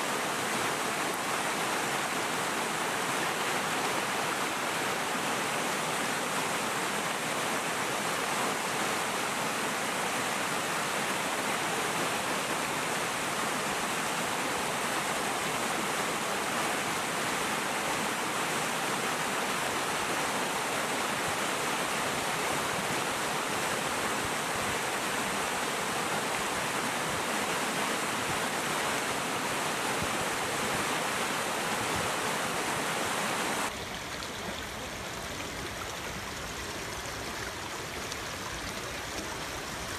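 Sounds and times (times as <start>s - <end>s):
light flow of water: 0.0s - 39.9s
rushing flowing water: 0.0s - 39.9s.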